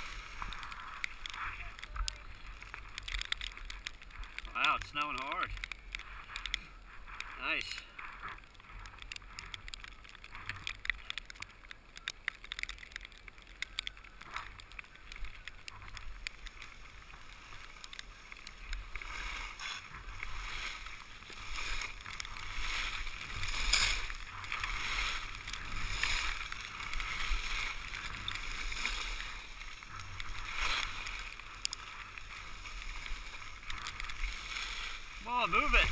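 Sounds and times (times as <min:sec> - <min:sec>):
small clicks and taps: 0:00.0 - 0:35.0
skis scraping on snow: 0:00.0 - 0:35.9.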